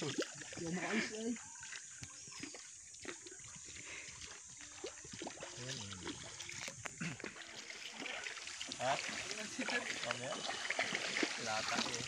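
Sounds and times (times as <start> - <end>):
river water trickling: 0.0 - 12.0
small water splashes: 0.0 - 12.0.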